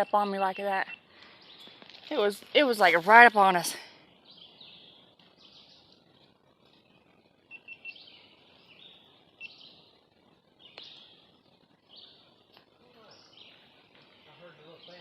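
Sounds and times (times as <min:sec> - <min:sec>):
background hiss: 0:00.0 - 0:15.0
faint songbirds singing: 0:00.0 - 0:15.0.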